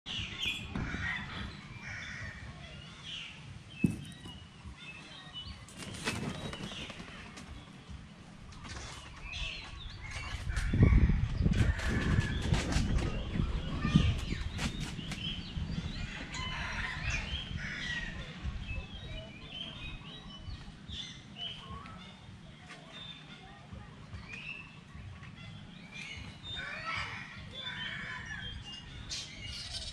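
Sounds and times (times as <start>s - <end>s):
birds chirping: 0.1s - 29.9s.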